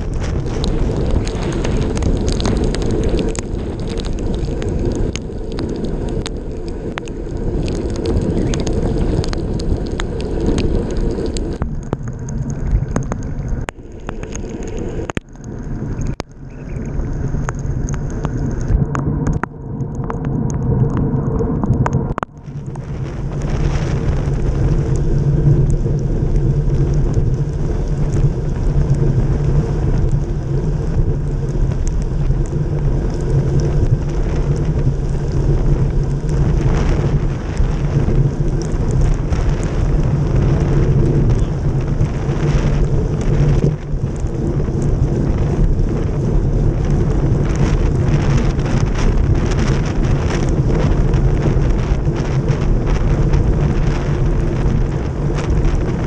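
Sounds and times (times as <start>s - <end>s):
heavy rain and wind noise: 0.0s - 56.0s
raindrops ticking on camera housing: 0.0s - 56.0s.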